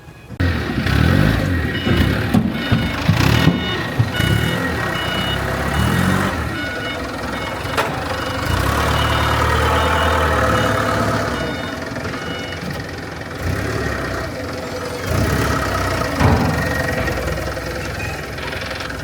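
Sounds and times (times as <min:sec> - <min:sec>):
heavy machine engine running: 0:00.3 - 0:19.0.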